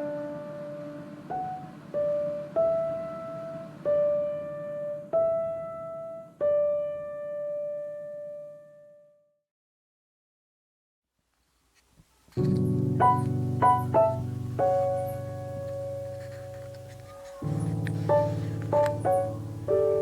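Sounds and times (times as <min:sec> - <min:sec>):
slow piano notes: 0:00.0 - 0:09.3, 0:12.3 - 0:20.0.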